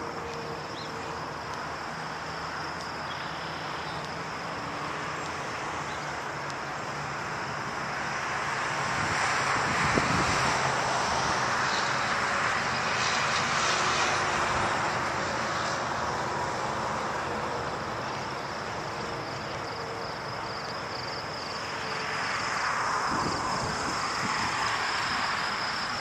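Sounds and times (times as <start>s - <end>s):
highway traffic: 0.0s - 26.0s.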